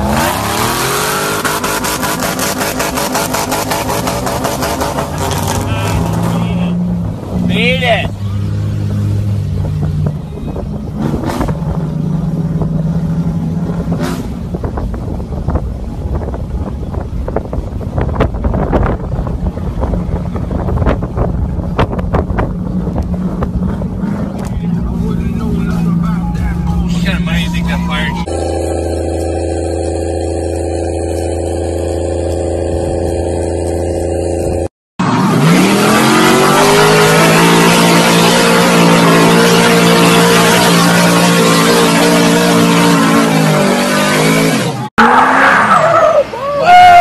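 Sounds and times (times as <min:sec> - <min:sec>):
vehicle engine droning: 0:00.0 - 0:47.0.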